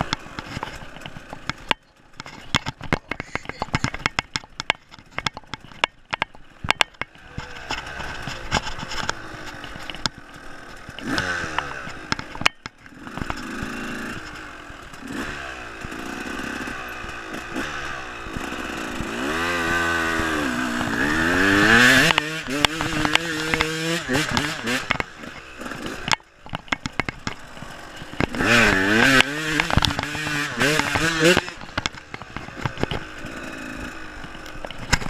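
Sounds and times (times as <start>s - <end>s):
rattling clicks: 0.0s - 17.6s, 18.2s - 35.0s
dirt bike engine revving: 0.0s - 35.0s.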